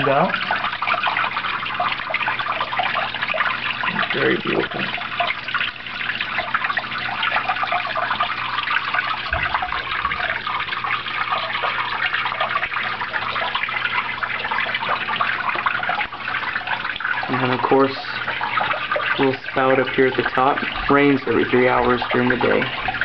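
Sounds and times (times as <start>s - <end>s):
waterfall trickling and splashing: 0.0s - 23.0s.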